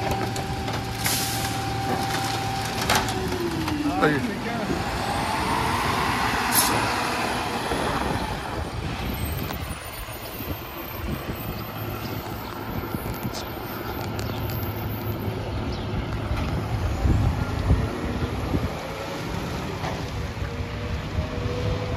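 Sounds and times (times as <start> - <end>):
garbage truck diesel engine: 0.0 - 21.9.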